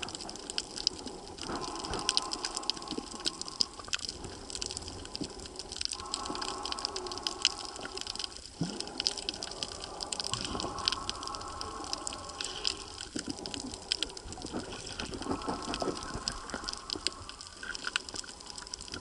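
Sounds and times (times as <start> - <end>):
crackle of sharp clicks: 0.0 - 19.0
faint steady hum: 0.0 - 19.0
water washing and gurgling: 0.0 - 19.0.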